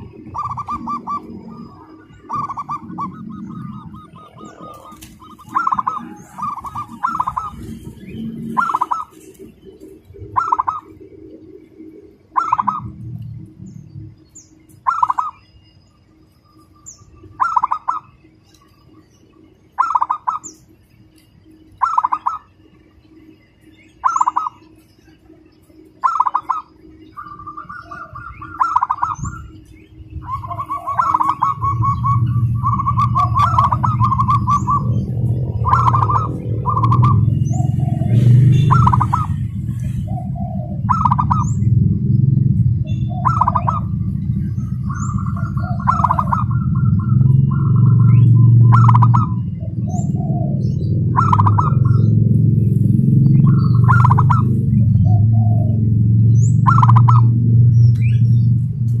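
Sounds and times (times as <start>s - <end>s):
dove cooing: 0.0s - 15.5s, 16.8s - 20.8s, 21.5s - 22.9s, 23.9s - 59.0s
small birds chirping: 0.0s - 59.0s.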